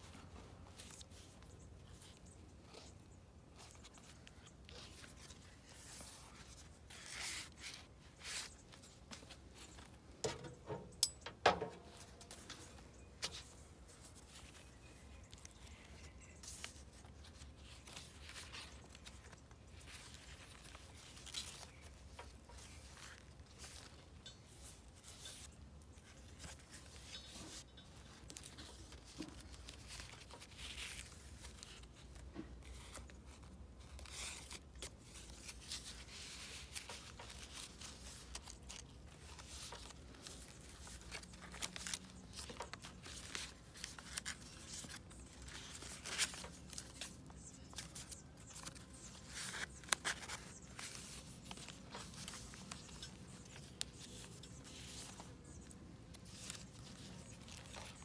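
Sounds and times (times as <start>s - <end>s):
paper rustling and crinkling: 0.0s - 11.0s, 11.6s - 58.0s.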